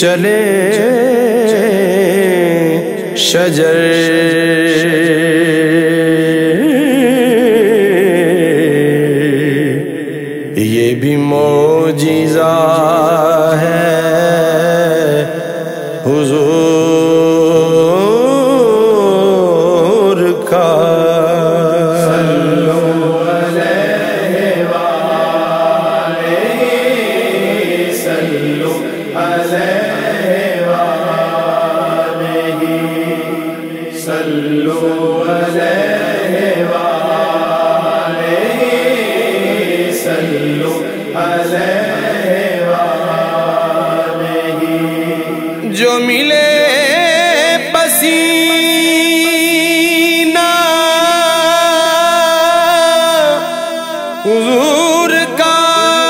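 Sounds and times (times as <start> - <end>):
wordless vocal chanting: 0.0 - 56.0.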